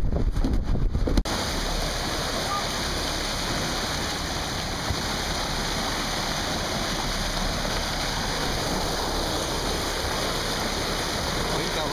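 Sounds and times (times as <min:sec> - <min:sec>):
water rushing along boat hull: 0:00.0 - 0:11.9.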